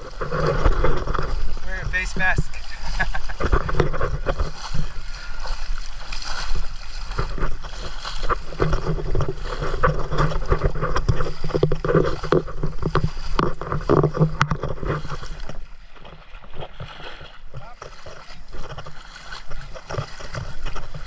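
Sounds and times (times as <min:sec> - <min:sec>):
water splashing around wading legs: 0:00.0 - 0:21.0.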